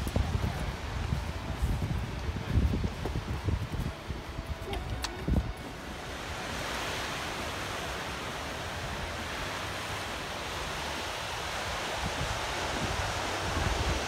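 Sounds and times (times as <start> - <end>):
surf washing up beach: 0.0 - 14.0.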